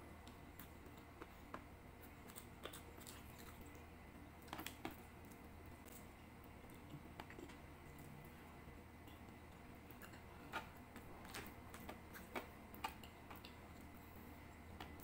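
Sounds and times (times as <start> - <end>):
person chewing food: 0.1 - 15.0.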